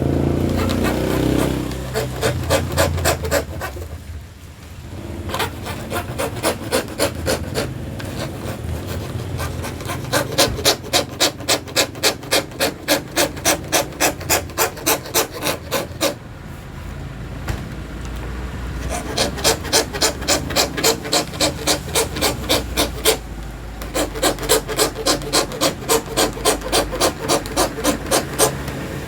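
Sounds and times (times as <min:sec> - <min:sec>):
fret saw cutting acrylic: 0:00.0 - 0:04.1, 0:04.9 - 0:16.2, 0:18.6 - 0:29.0.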